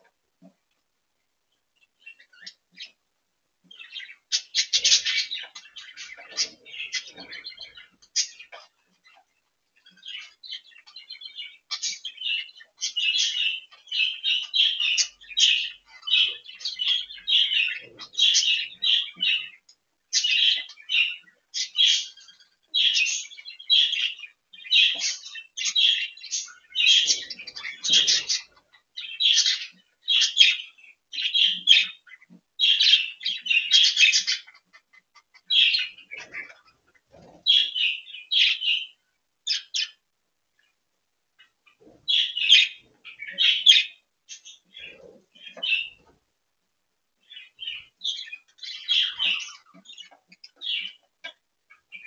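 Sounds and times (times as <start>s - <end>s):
budgerigars chirping: 1.8s - 3.0s, 3.7s - 40.0s, 41.4s - 46.2s, 47.2s - 52.0s.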